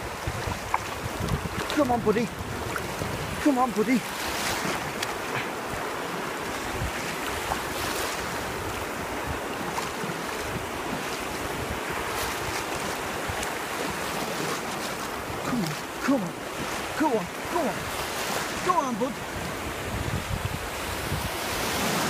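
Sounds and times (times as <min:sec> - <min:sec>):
surf washing over pebbles: 0:00.0 - 0:22.0
wind buffeting microphone: 0:00.0 - 0:22.0.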